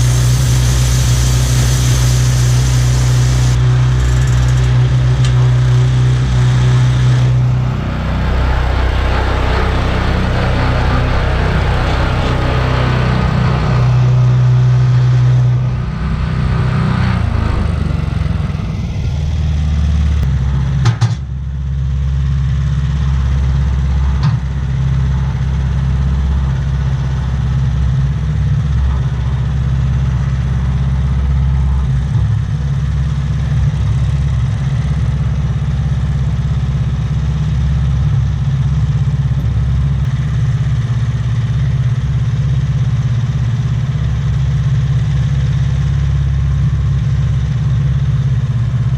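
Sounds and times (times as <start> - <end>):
sawmill engine running: 0.0 - 20.9, 21.5 - 48.9.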